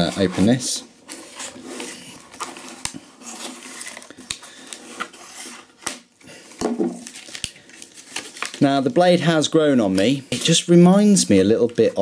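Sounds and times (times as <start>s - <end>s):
stiff plastic crackling: 0.0s - 12.0s.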